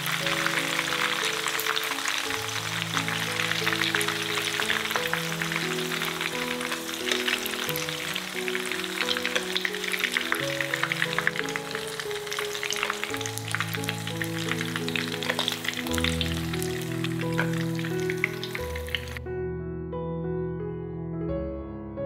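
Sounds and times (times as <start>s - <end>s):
oil sizzling in frying pan: 0.0s - 19.2s
background music: 0.0s - 22.0s.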